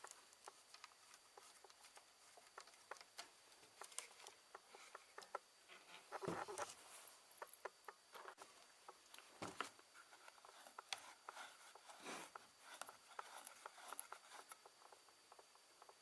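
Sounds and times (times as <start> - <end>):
faint clicks and taps: 0.0 - 6.8, 7.4 - 16.0.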